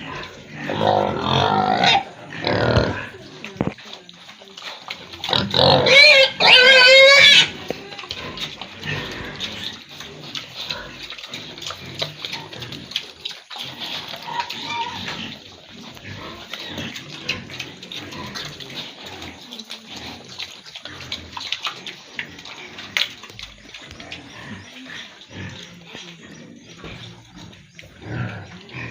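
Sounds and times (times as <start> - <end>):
pigs grunting: 0.0 - 28.9.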